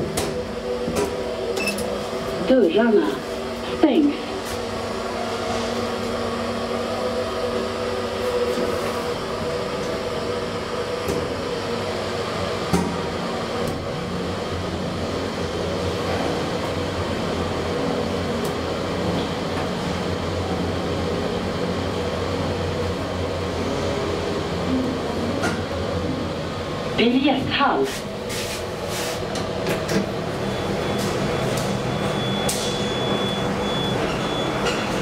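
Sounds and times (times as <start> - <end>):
elevator fan and drive hum: 0.0 - 35.0.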